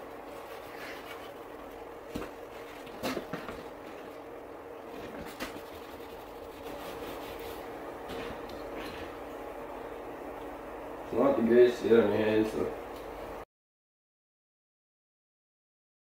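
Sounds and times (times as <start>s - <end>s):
steady hum: 0.0s - 13.5s.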